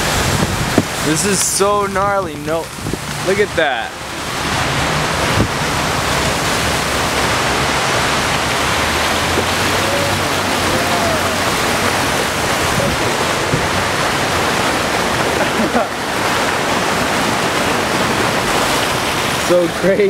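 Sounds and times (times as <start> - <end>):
car splashing through water: 0.0 - 20.0.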